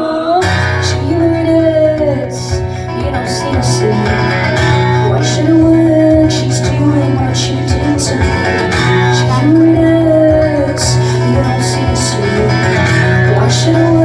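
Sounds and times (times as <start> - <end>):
gliding melodic line: 0.4 - 14.0
rock band playing loudly: 0.5 - 14.0.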